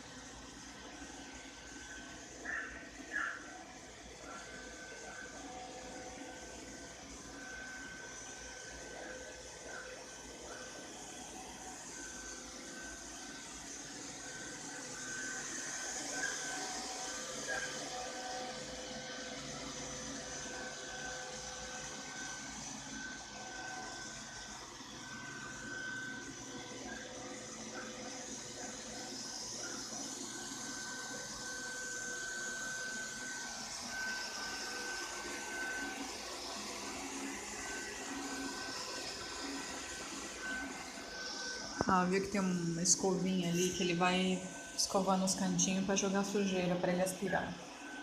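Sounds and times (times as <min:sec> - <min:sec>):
robot vacuum cleaner humming: 0:00.0 - 0:48.0.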